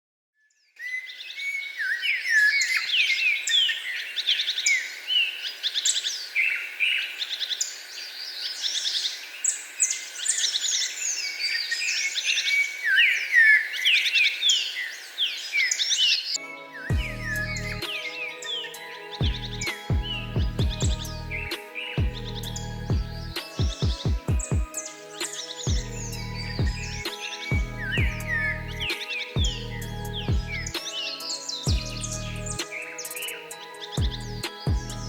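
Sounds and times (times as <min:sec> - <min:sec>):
songbirds singing and chirping: 0:00.5 - 0:35.0.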